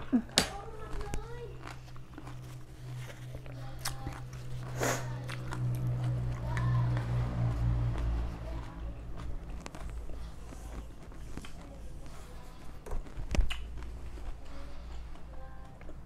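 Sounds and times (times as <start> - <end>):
steady low hum: 0.0 - 16.0
wet mouth chewing clicks: 0.0 - 16.0.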